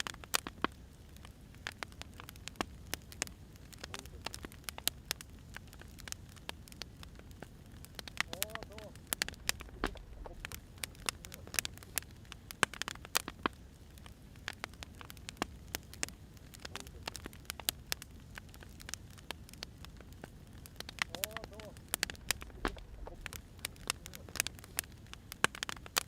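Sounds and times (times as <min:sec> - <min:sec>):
fire crackling and popping: 0:00.0 - 0:26.0
low steady hiss: 0:00.0 - 0:26.0.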